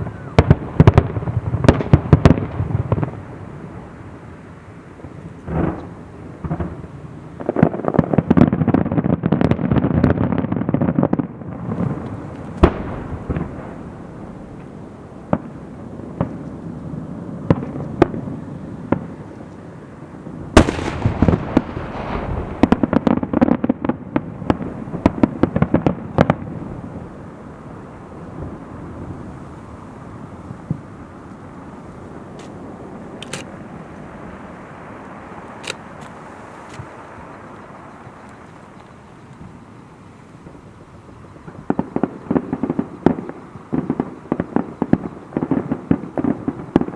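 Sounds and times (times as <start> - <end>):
firework booms: 0.0 - 38.4, 40.3 - 46.9
fireworks crackling bangs: 0.0 - 46.9.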